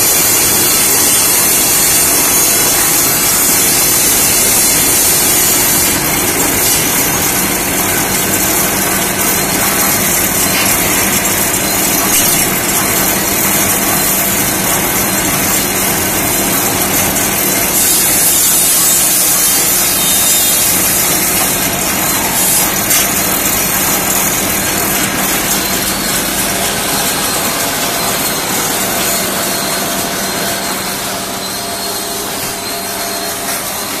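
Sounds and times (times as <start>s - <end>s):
machine drive humming: 0.0s - 34.0s.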